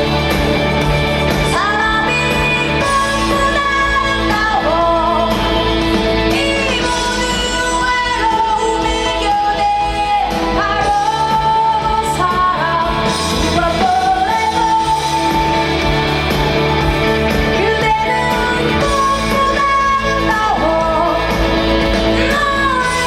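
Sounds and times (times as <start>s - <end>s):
band playing: 0.0s - 23.0s
woman singing pop: 1.3s - 23.0s.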